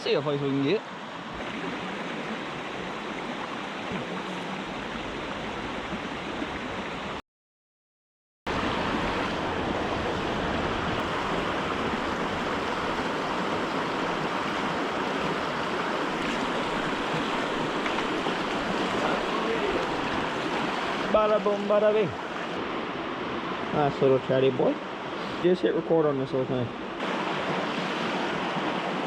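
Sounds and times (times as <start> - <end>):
rushing mountain stream: 0.0 - 7.2, 8.5 - 29.0.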